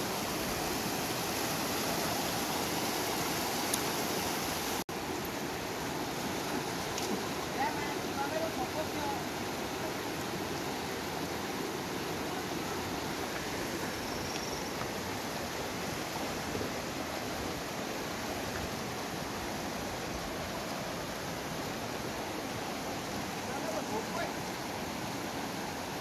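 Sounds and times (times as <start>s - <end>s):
river rushing over stones: 0.0s - 26.0s.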